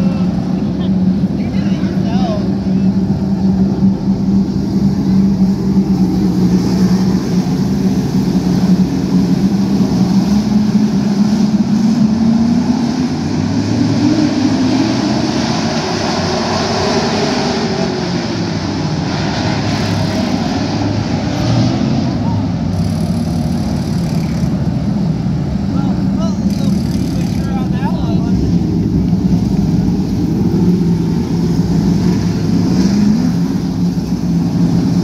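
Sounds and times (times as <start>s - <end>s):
race car engines droning: 0.0s - 35.0s.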